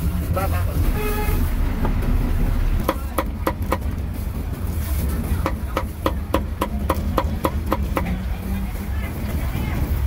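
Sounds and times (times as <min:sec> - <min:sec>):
low street traffic rumble: 0:00.0 - 0:10.0.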